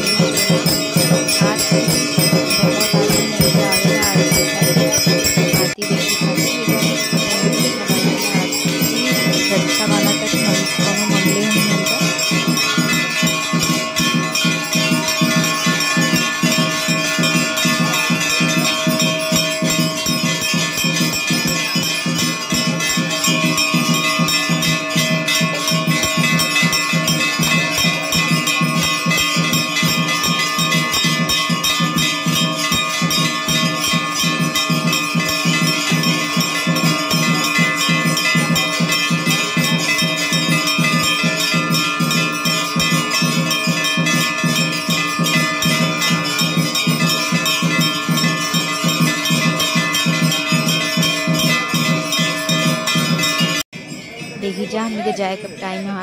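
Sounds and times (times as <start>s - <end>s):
brass bells ringing: 0.0s - 56.0s.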